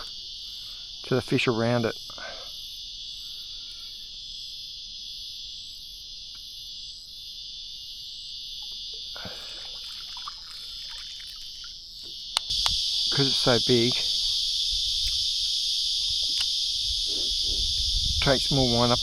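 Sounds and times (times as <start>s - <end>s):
insect chorus shrilling: 0.0s - 19.0s.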